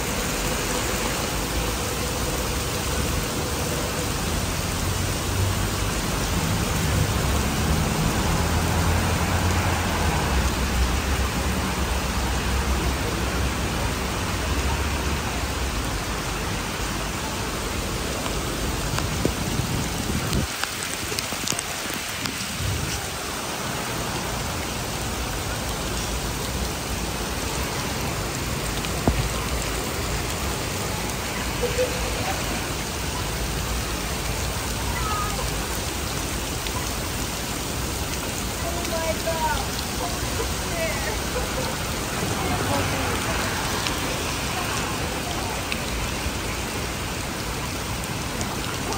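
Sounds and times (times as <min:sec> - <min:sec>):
heavy rain on pavement: 0:00.0 - 0:48.9.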